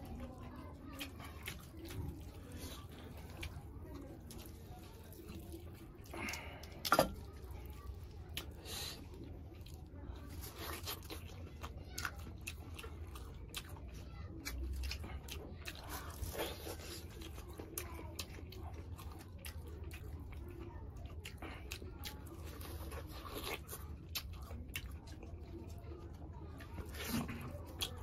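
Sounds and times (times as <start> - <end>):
biting and chewing meat: 0.0 - 28.0.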